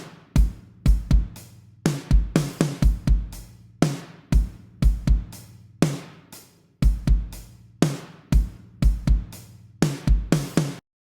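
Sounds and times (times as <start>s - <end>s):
kick and snare drum loop: 0.0s - 10.8s.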